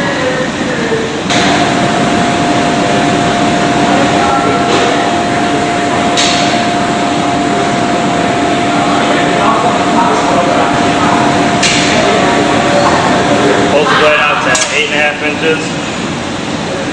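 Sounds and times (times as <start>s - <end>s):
machinery whirring with whine: 0.0s - 16.9s.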